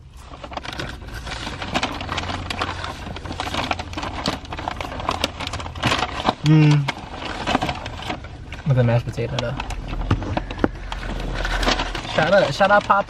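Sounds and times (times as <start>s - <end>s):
paper packaging crinkling: 0.0s - 13.0s
steady low hum: 0.0s - 13.0s.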